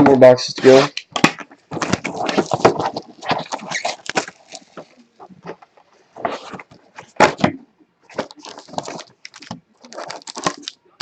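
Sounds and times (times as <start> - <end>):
card packaging crinkling and rustling: 0.7 - 7.2, 8.1 - 11.0.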